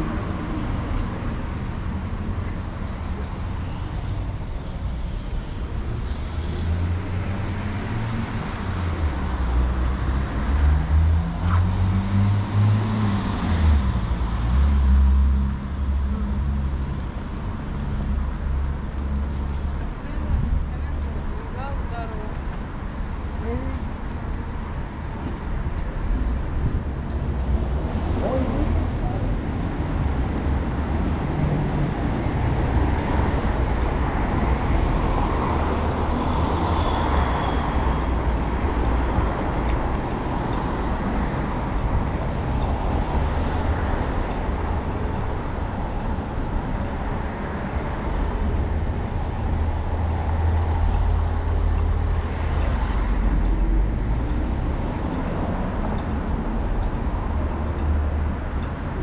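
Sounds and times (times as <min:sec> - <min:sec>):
cars passing: 0:00.0 - 0:59.0
road noise: 0:00.0 - 0:59.0.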